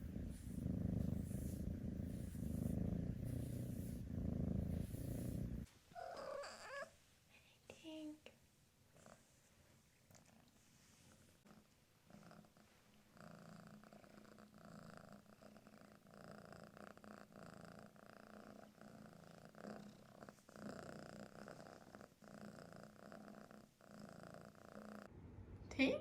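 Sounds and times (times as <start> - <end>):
kitten purring: 0.0 - 7.0, 8.9 - 25.1.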